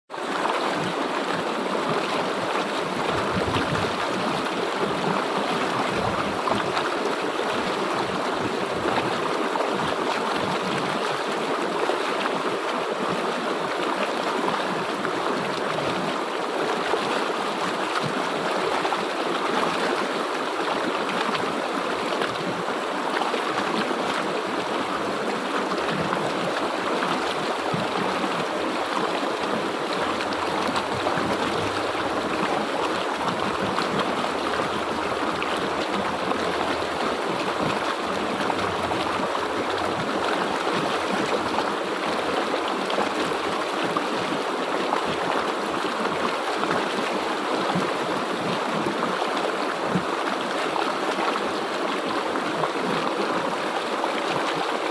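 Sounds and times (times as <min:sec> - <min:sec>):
river water flowing over rocks: 0:00.1 - 0:54.9.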